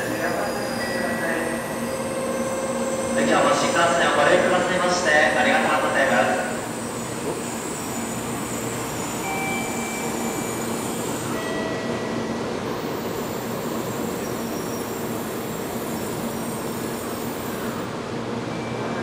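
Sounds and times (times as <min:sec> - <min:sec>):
faint high whines: 0:00.0 - 0:19.0
train hum and rumble: 0:00.0 - 0:19.0.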